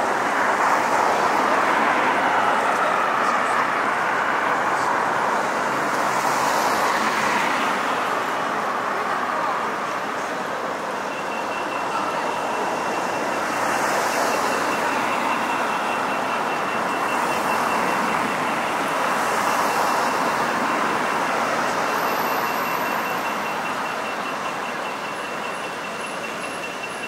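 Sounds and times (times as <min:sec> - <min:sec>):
city traffic noise: 0:00.0 - 0:27.0.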